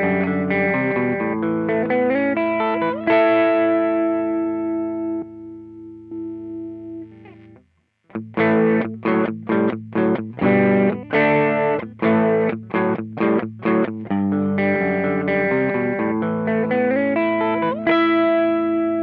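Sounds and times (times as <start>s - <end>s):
overdriven electric guitar: 0.0s - 19.0s.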